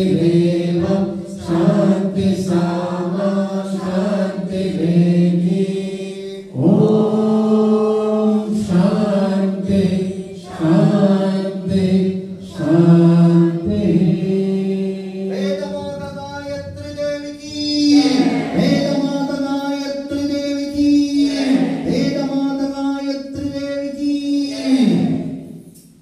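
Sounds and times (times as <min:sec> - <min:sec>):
voices chanting: 0:00.0 - 0:15.8, 0:17.8 - 0:19.6, 0:20.2 - 0:22.7, 0:24.5 - 0:25.4.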